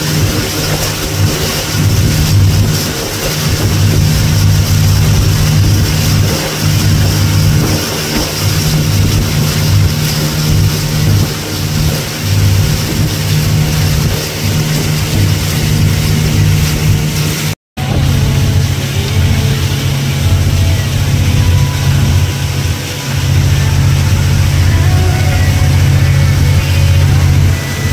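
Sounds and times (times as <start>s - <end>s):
motorboat engine running: 0.0s - 27.9s
rush of wind and water: 0.0s - 27.9s.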